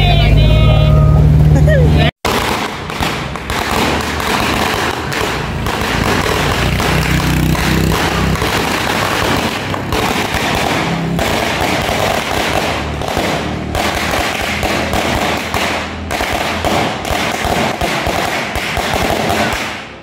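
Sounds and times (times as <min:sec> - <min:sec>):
firecrackers crackling: 0:02.2 - 0:20.0.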